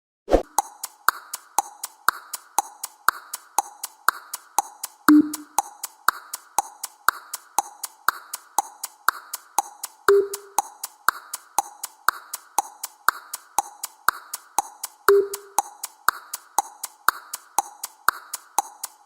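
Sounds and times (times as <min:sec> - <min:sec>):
clock-like ticking: 0:00.4 - 0:19.0.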